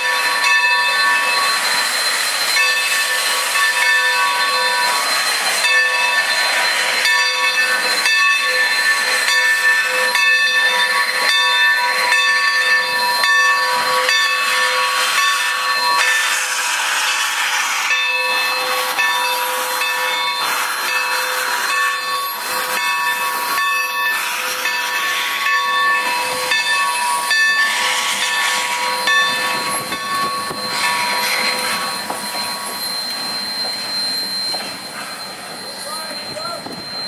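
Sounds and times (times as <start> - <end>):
hissing steam: 0.0 - 37.0.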